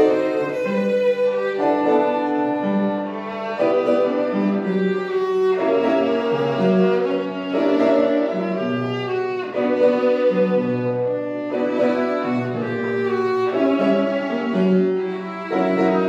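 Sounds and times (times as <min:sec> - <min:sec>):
bowed violin: 0:00.0 - 0:16.0
upright piano: 0:00.0 - 0:16.0.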